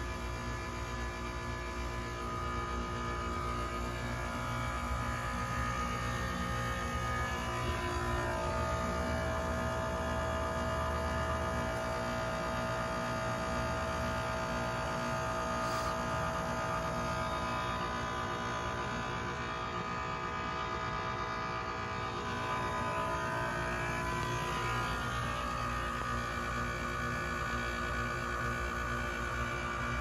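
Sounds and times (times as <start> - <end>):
heat pump compressor humming: 0.0 - 30.0.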